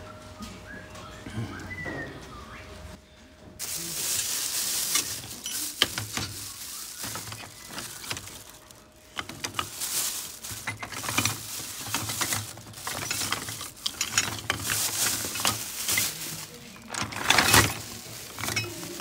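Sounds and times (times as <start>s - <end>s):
plastic bag rustling: 3.6s - 19.0s
wood and plastic pieces clattering: 3.6s - 19.0s.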